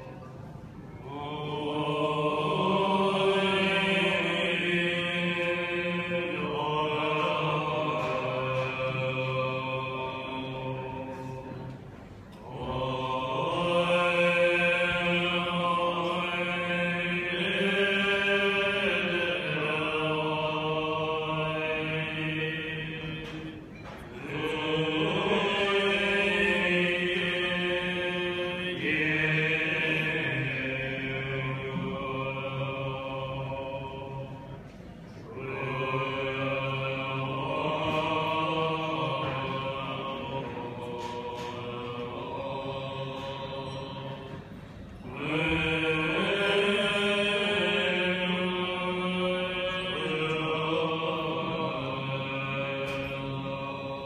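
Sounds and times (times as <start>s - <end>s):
monks chanting: 1.0s - 54.0s.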